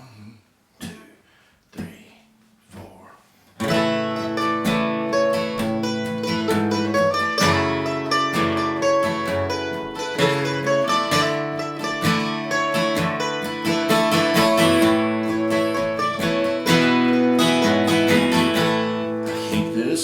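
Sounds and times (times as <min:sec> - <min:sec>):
acoustic guitar strummed and picked: 0:03.6 - 0:20.0.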